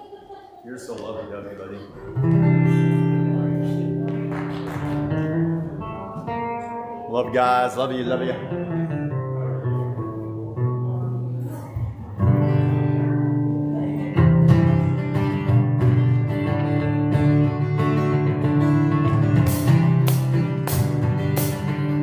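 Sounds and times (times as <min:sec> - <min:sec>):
worship music with acoustic guitar: 0:01.8 - 0:22.0.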